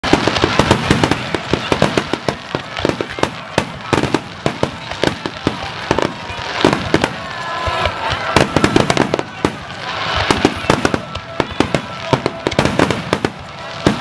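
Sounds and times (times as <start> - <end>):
fireworks bangs and cracks: 0.0 - 14.0
fireworks crackle: 0.0 - 14.0.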